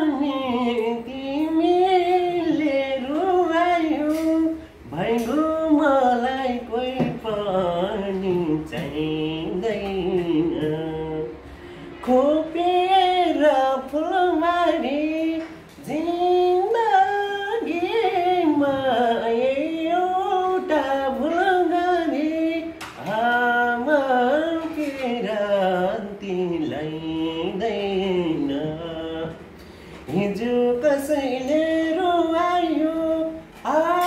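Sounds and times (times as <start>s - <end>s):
man singing folk song unaccompanied: 0.0s - 11.4s, 12.0s - 34.0s.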